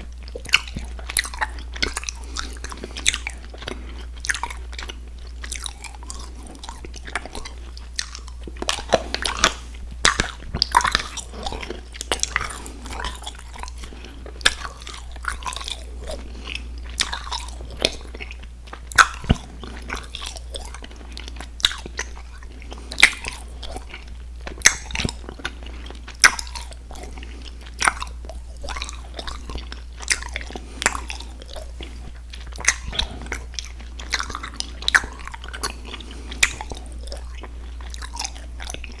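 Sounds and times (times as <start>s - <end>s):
chewing chewy candy: 0.0s - 39.0s.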